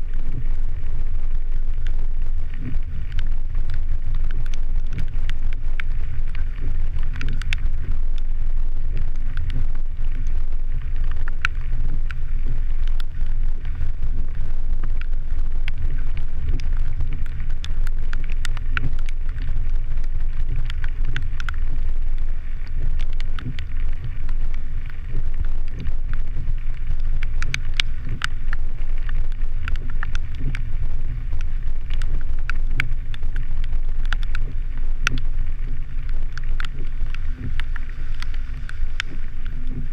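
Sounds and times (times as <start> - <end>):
wind and road rumble: 0.0 - 39.9
sharp ticks: 1.2 - 39.8.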